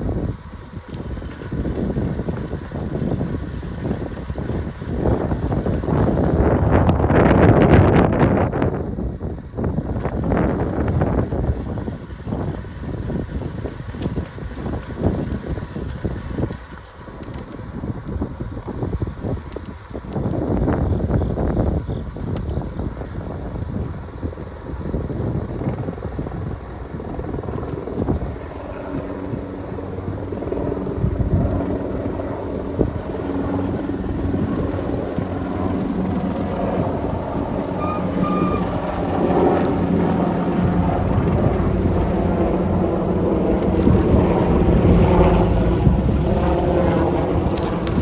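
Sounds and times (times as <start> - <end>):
faint hum from moving bike: 0.0 - 48.0
wind buffeting microphone: 0.0 - 48.0.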